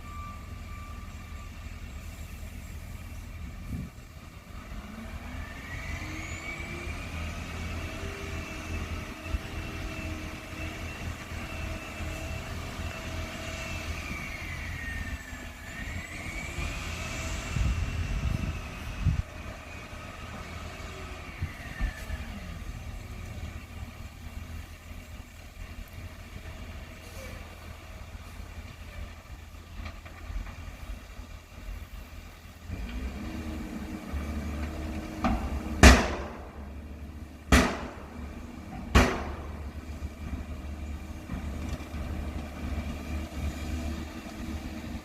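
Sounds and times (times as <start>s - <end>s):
excavator engine and hydraulics: 0.0s - 45.0s.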